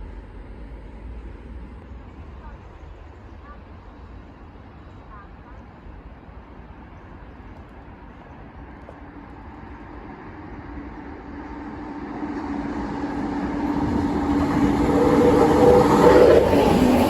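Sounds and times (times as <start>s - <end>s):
train approaching: 0.0s - 17.0s.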